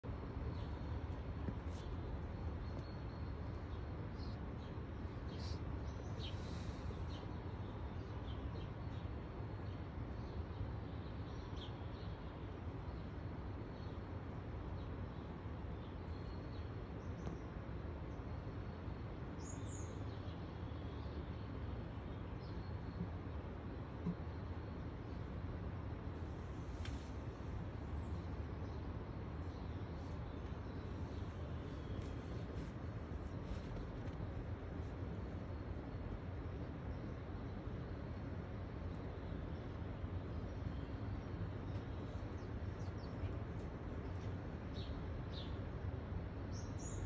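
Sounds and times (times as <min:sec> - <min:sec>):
low background rumble: 0:00.0 - 0:47.0
small birds chirping: 0:00.1 - 0:47.0.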